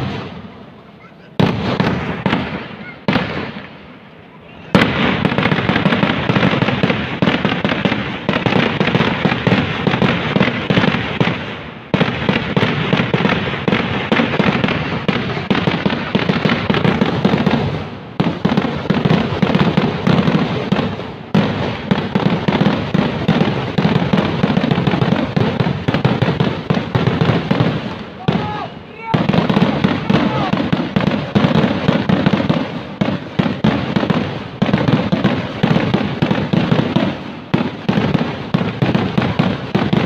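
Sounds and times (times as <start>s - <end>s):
fireworks bangs and crackle: 0.0s - 40.0s.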